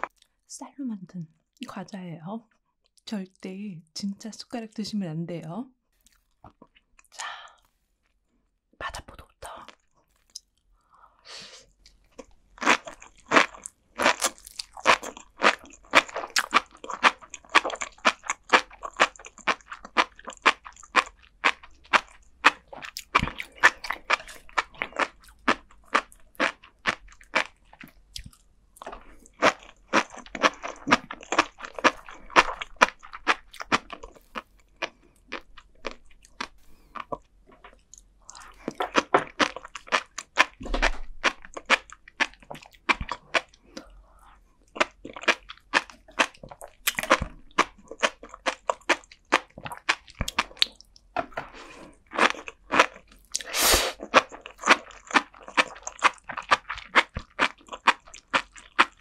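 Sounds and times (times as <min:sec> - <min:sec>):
chewing crunchy rice cracker: 0:06.0 - 0:08.2, 0:09.6 - 0:11.0, 0:11.7 - 0:59.0.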